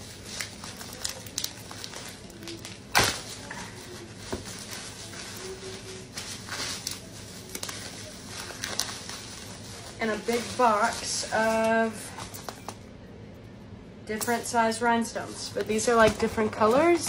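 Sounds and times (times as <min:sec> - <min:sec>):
bubble wrap and plastic bag crinkling: 0:00.0 - 0:12.8, 0:14.2 - 0:17.0.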